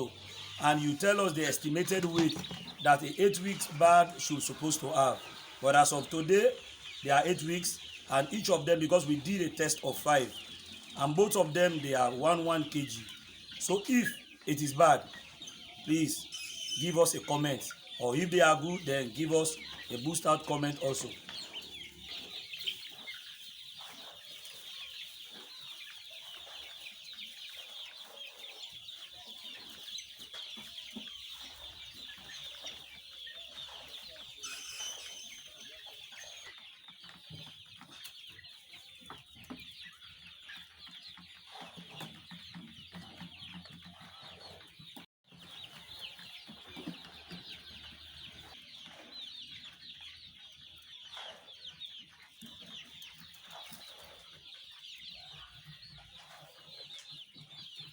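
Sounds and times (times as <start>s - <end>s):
chickens peeping and clucking: 0.0s - 57.9s.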